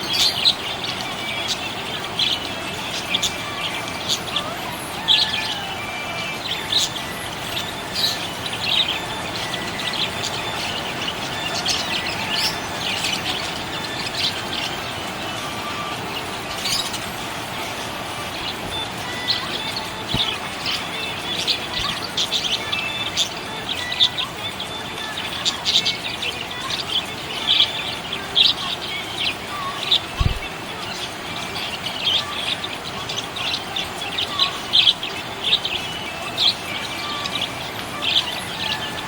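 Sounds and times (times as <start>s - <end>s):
parrots chirping: 0.0s - 39.0s.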